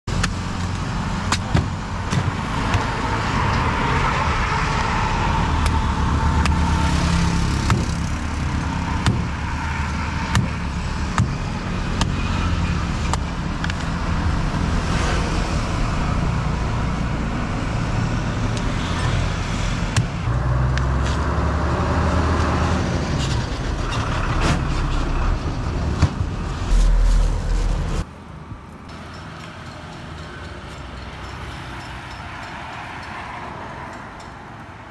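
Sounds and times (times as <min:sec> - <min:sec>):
road traffic: 0:00.0 - 0:34.9.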